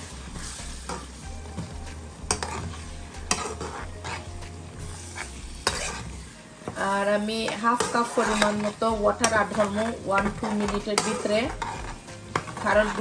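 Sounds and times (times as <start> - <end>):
light sizzle: 0.0 - 13.0
spoon stirring vegetables in pan: 0.0 - 13.0.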